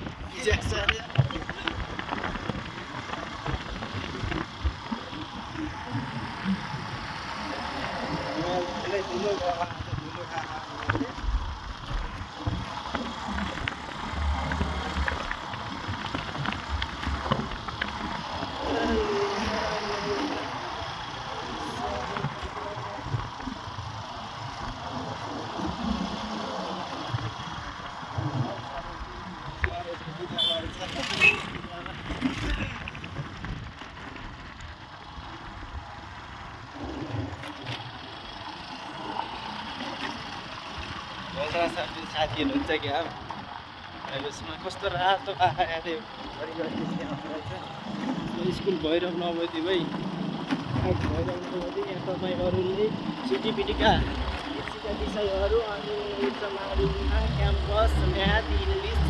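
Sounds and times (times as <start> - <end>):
motorcycle riding: 0.0 - 59.0
road and wind noise: 0.0 - 59.0.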